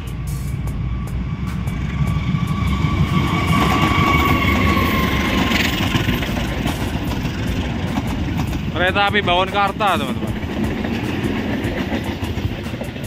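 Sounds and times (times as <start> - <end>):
coaches running on rails: 0.0 - 13.0
diesel locomotive rumble: 0.0 - 13.0
steady whine: 0.0 - 13.0.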